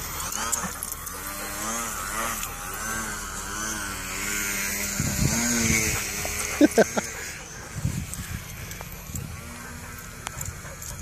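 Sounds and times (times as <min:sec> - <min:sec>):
model airplane propeller buzzing: 0:00.0 - 0:11.0.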